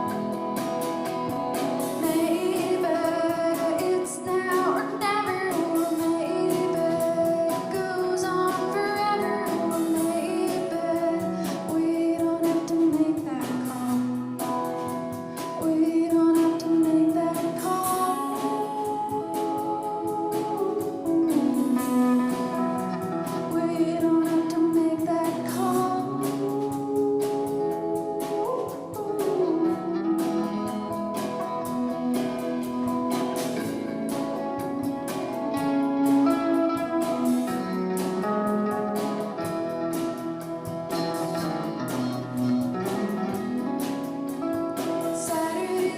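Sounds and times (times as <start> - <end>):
strummed guitar: 0.0 - 45.9.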